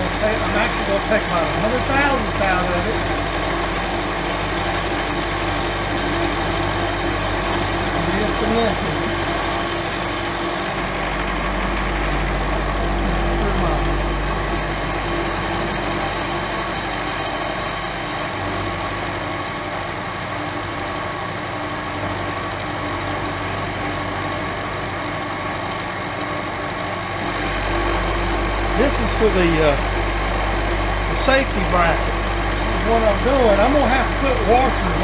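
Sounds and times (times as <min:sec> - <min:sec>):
milling machine humming: 0:00.0 - 0:35.0.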